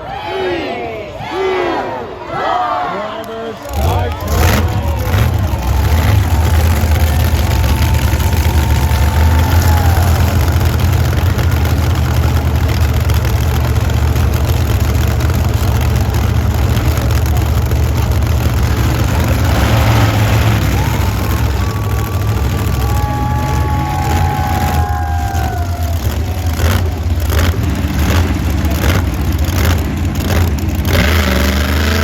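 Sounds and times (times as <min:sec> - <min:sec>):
truck engines idling: 0:03.0 - 0:32.0.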